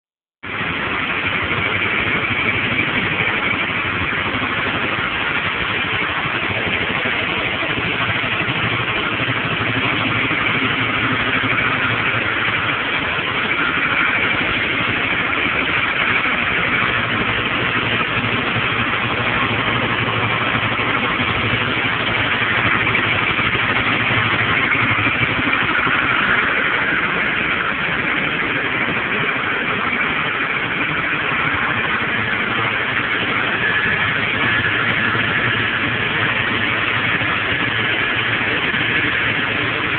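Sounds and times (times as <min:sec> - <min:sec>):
motorcycle engine running: 0:00.5 - 0:39.9.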